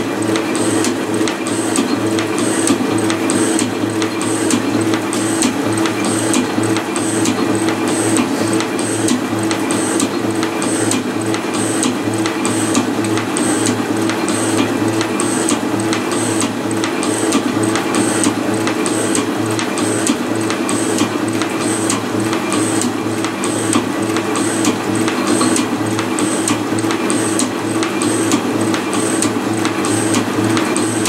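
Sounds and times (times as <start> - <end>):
milling machine hum: 0.0 - 31.0.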